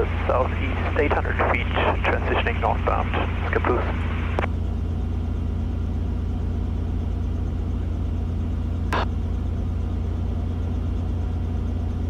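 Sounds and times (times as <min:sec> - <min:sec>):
helicopter engine and rotor hum: 0:00.0 - 0:12.0.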